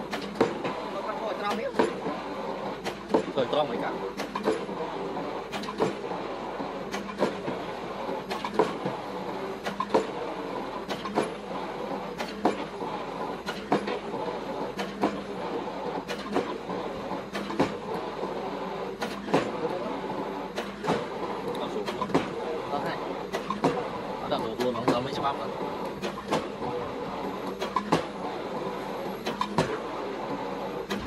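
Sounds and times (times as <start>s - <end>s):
excavator engine hum: 0.0s - 31.0s.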